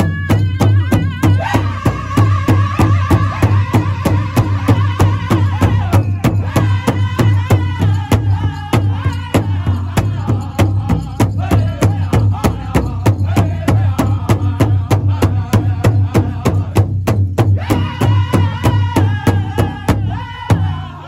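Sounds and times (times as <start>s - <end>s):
large hide drum beating: 0.0s - 20.8s
men singing high in unison: 0.0s - 21.0s.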